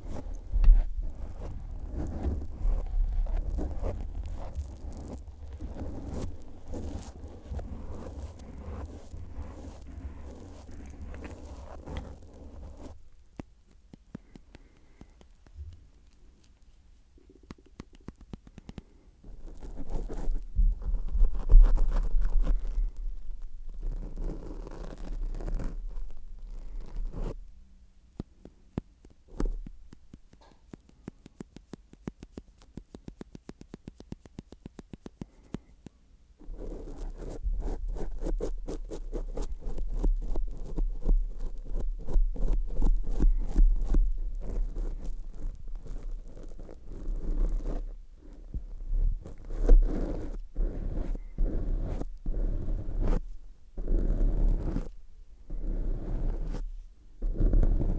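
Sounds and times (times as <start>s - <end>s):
scratchy rubbing on microphone: 0.0s - 27.5s, 29.0s - 35.6s, 36.4s - 57.9s.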